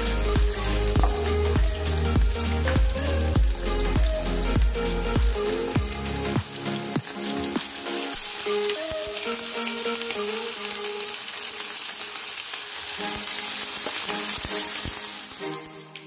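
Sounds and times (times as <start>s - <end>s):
meat sizzling in a pan: 0.0s - 15.9s.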